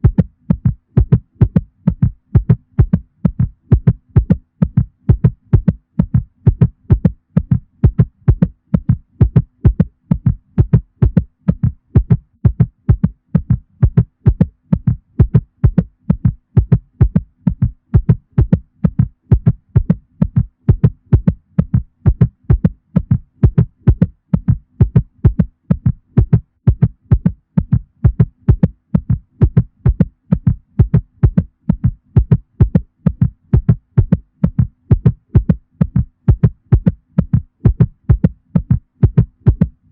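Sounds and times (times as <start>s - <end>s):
heartbeat thudding: 0.0s - 39.9s.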